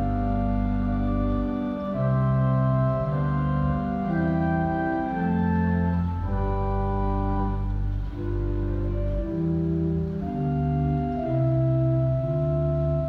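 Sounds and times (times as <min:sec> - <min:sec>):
pipe organ playing chords: 0:00.0 - 0:13.0.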